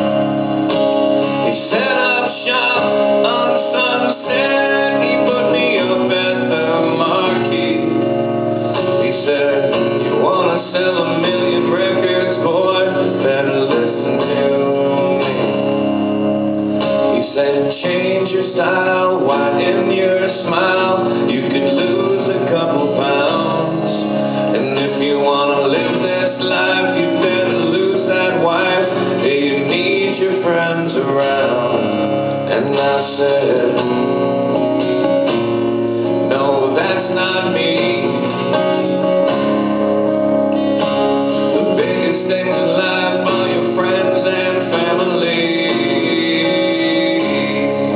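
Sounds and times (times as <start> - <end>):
country music with guitar: 0.0 - 47.9.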